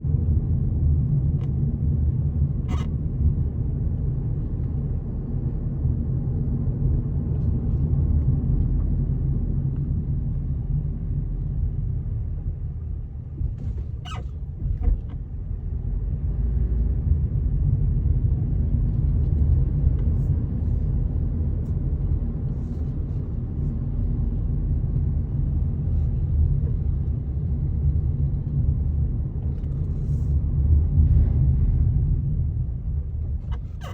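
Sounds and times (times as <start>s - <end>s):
low outdoor rumble: 0.0s - 33.9s.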